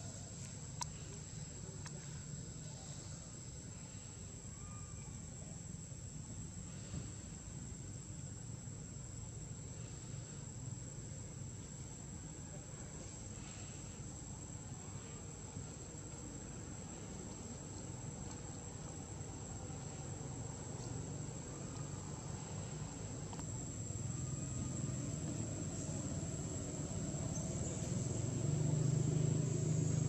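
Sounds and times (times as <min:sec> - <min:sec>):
insects buzzing: 0:00.0 - 0:30.0
low background rumble: 0:00.0 - 0:30.0.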